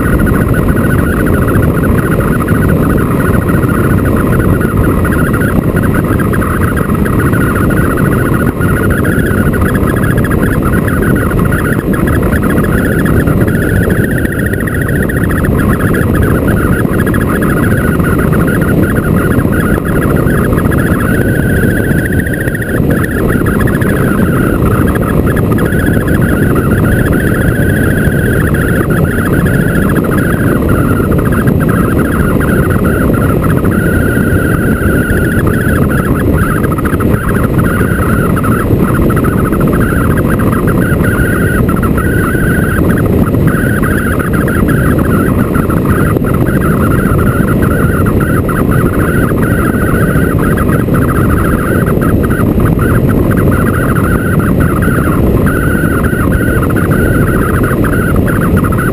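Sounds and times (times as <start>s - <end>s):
high wavering whine: 0.0s - 58.9s
wind and road noise: 0.0s - 58.9s.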